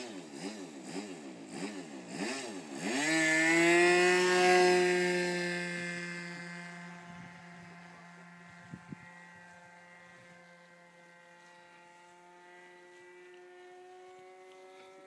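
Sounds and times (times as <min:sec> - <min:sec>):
model plane motor drone: 0:00.0 - 0:15.0.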